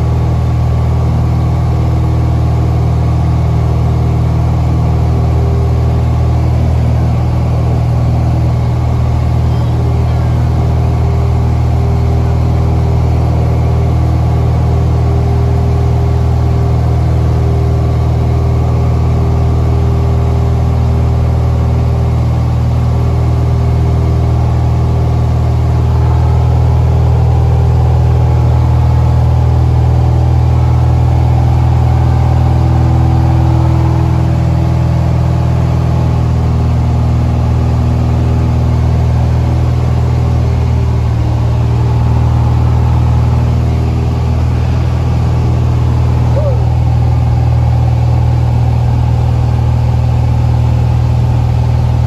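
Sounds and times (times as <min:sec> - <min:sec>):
propeller aircraft engine droning: 0:00.0 - 0:52.0.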